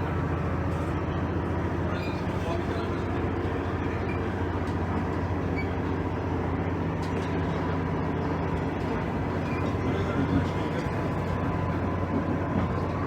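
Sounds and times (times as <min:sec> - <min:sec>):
railcar diesel engine hum: 0:00.0 - 0:13.0.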